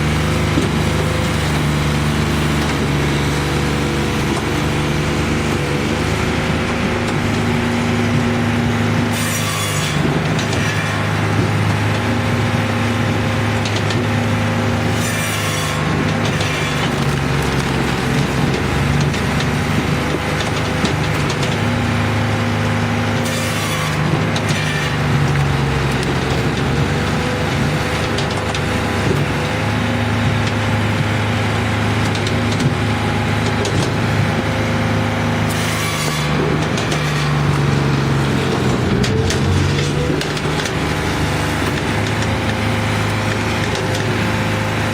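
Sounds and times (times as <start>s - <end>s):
firewood processor humming: 0.0s - 44.9s
hydraulic power unit droning: 0.0s - 44.9s
wood knocking and splitting: 0.0s - 44.9s.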